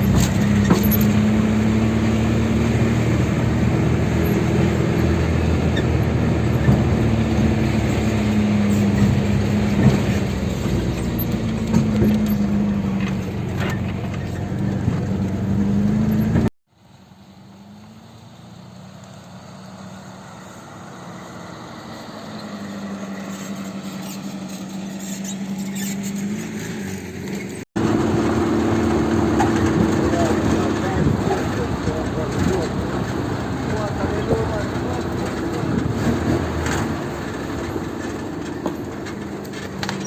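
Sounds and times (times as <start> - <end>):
road noise: 0.0 - 40.0
van engine hum: 0.0 - 40.0.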